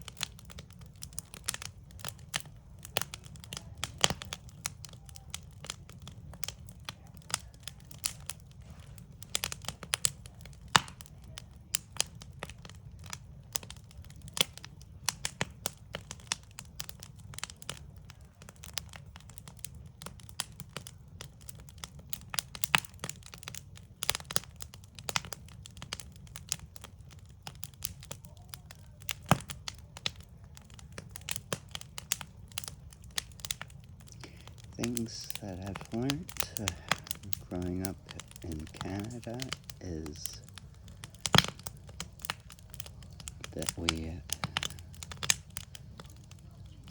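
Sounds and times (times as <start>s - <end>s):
low fire rumble: 0.0s - 46.9s
wood fire crackling: 0.0s - 46.9s.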